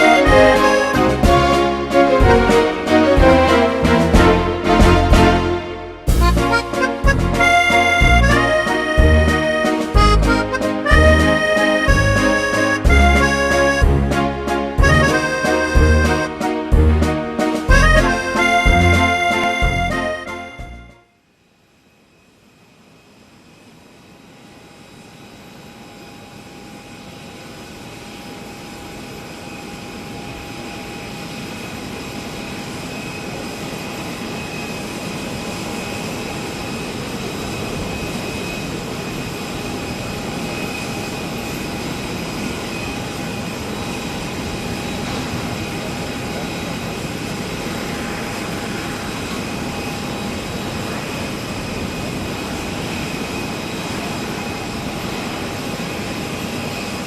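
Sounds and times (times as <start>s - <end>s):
jet engines roaring and whining: 0.0s - 20.8s, 22.6s - 57.0s.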